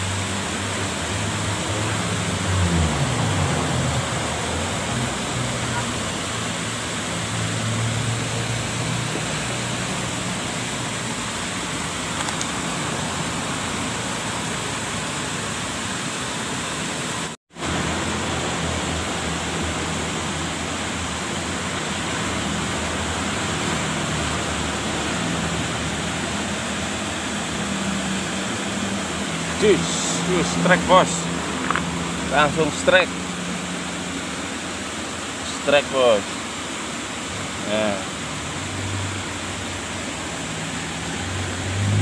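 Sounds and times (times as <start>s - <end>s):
stream water over rocks: 0.0s - 42.0s.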